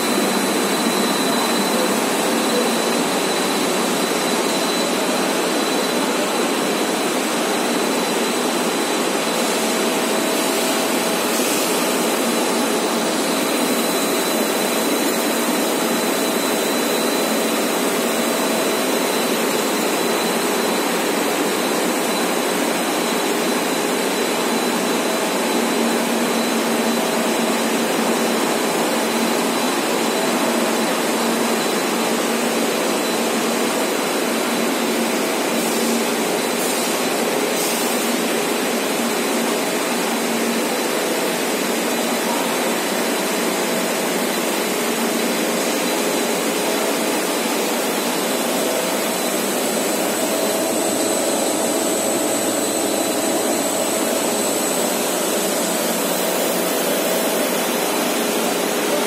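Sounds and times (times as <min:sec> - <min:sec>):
thin high whine: 0:00.0 - 0:34.9, 0:41.6 - 0:59.0.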